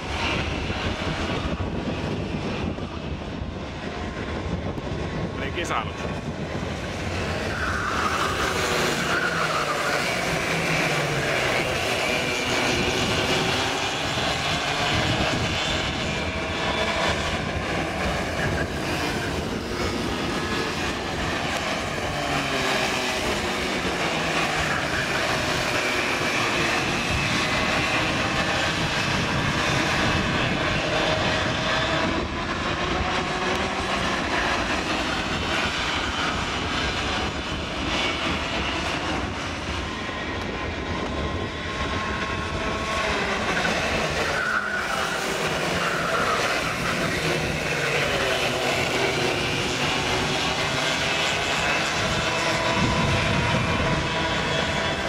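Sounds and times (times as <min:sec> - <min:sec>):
kart engines buzzing past: 0:06.2 - 0:55.0.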